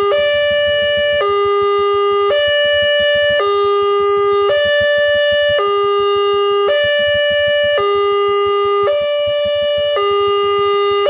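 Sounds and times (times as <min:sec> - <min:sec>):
level crossing two-tone alarm: 0:00.0 - 0:11.0.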